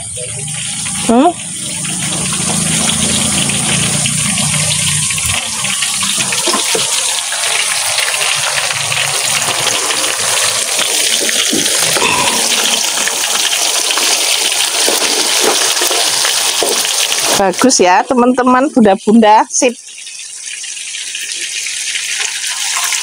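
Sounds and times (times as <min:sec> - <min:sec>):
fritters sizzling in oil: 0:00.0 - 0:23.0.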